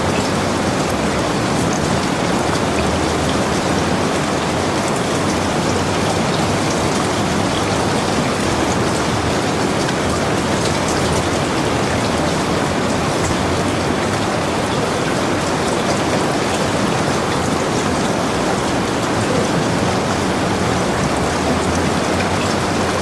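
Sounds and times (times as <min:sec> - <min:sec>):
heavy rain falling: 0:00.0 - 0:23.0
raindrops pattering: 0:00.0 - 0:23.0.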